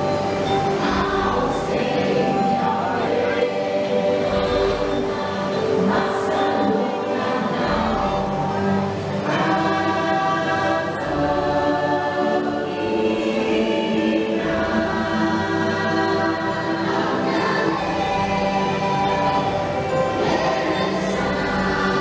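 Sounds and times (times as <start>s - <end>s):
choir singing held chords: 0.0s - 22.0s.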